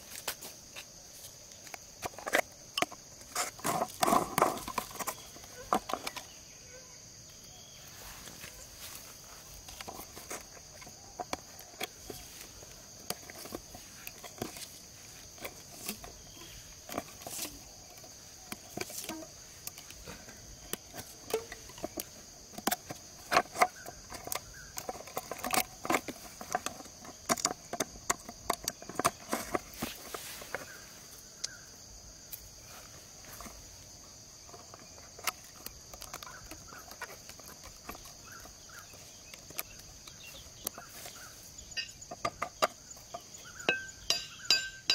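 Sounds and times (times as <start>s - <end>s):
insects buzzing: 0.0s - 44.9s.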